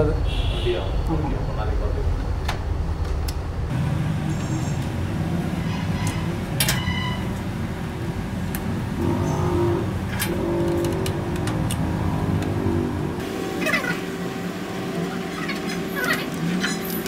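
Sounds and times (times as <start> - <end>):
steady low rumble: 0.0 - 6.6, 7.2 - 14.8.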